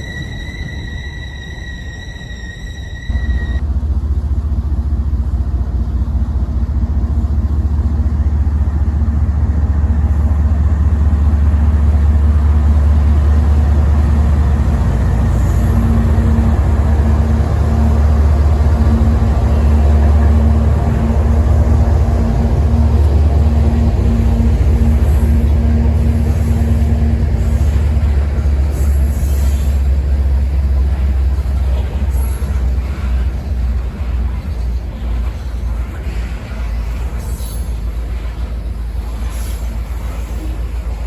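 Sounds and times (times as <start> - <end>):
freight train rumbling: 0.0 - 41.0.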